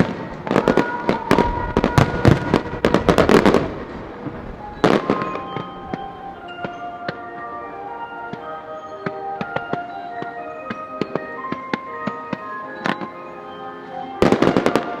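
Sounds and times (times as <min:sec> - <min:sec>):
fireworks bangs and crackling: 0:00.0 - 0:13.2, 0:14.1 - 0:15.0
music with sustained notes: 0:00.0 - 0:15.0.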